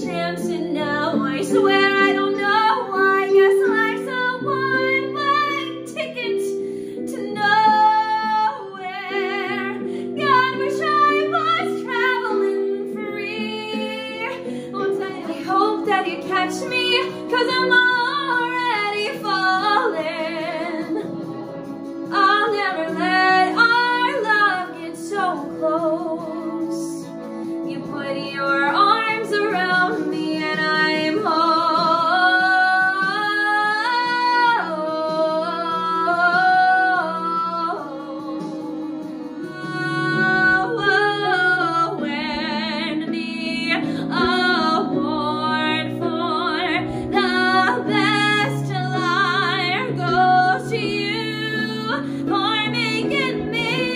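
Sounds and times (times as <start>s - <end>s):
instrumental accompaniment: 0.0s - 53.9s
woman singing: 0.0s - 53.9s.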